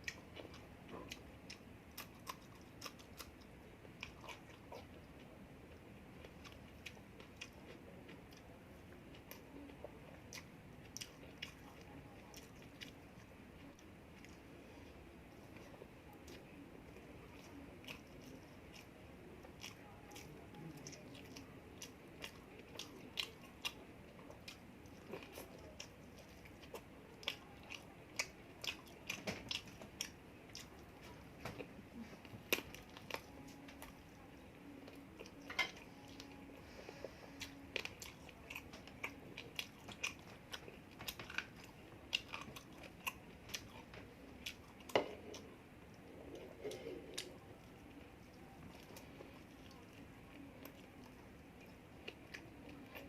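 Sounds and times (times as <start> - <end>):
person chewing food: 0.0 - 34.2, 34.8 - 53.0.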